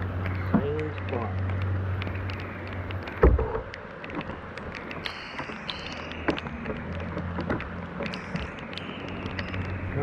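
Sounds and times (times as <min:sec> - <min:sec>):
small clicks and knocks: 0:00.0 - 0:10.0.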